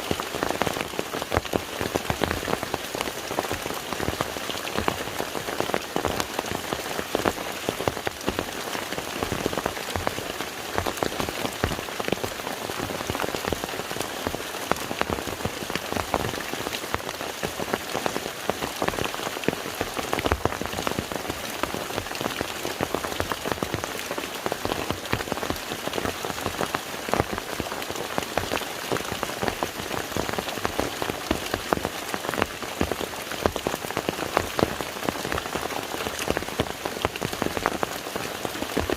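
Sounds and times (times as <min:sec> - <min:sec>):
rain falling on water: 0:00.0 - 0:38.9.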